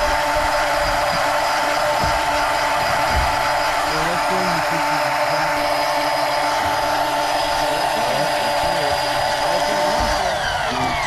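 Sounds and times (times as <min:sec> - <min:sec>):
electric fishing reel whine: 0:00.0 - 0:11.0.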